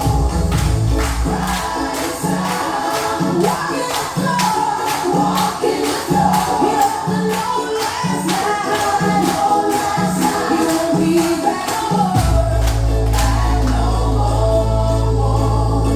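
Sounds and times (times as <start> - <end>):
dance music with singing: 0.0 - 15.9.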